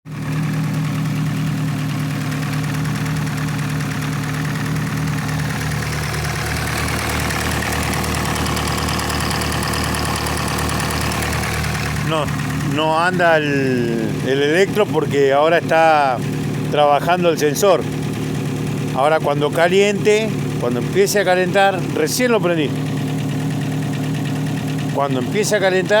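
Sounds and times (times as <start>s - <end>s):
car engine idling: 0.1s - 26.0s.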